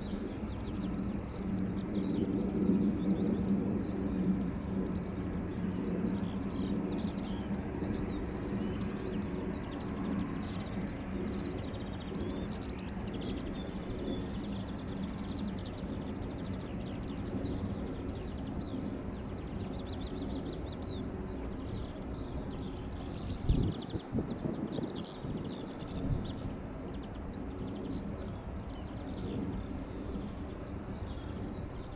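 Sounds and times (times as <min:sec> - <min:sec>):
distant aircraft engine drone: 0:00.0 - 0:31.9
small birds chirping: 0:00.0 - 0:31.9
wind rumble on microphone: 0:00.0 - 0:31.9.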